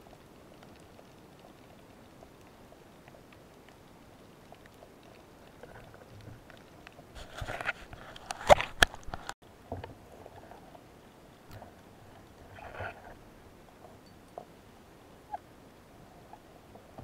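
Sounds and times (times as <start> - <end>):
soft rush of water: 0.0 - 17.0.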